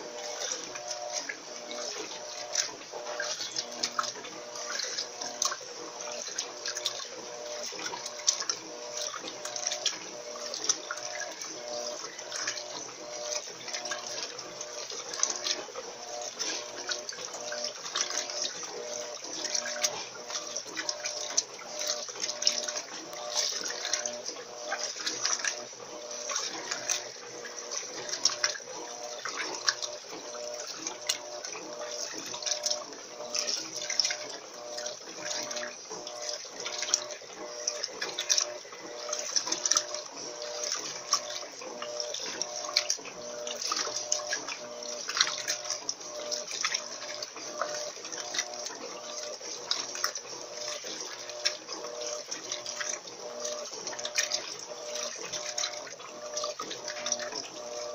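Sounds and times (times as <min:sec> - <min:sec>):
washing machine motor hum: 0:00.0 - 0:57.9
water splashing and churning: 0:00.0 - 0:57.9.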